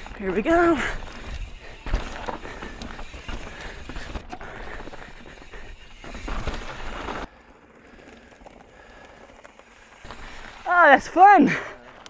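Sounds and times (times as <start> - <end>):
bike rattling and clatter: 0.0 - 12.0
bike tyres rolling on dirt: 0.0 - 12.0.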